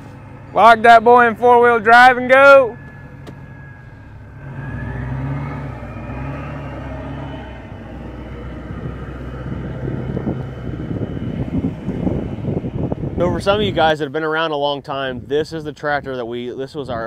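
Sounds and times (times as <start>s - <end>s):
truck engine pulling away: 0.0s - 14.5s.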